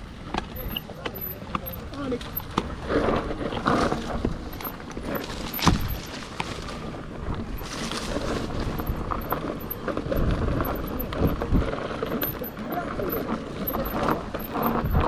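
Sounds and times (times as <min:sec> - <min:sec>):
bike rattling over bumps: 0:00.0 - 0:15.0
bike tyres on dirt: 0:00.0 - 0:15.0.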